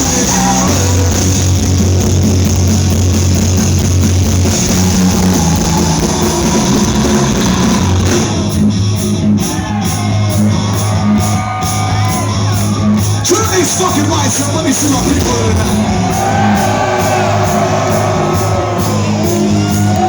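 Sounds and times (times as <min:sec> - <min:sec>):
distorted electric guitar: 0:00.0 - 0:20.0
drums: 0:00.0 - 0:20.0
heavy rock band playing: 0:00.0 - 0:20.0.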